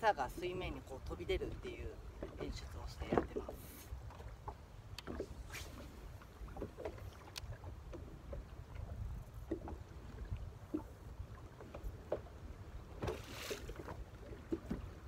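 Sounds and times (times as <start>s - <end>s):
low wind rumble: 0.0s - 15.0s
water lapping against boat hull: 0.0s - 15.0s.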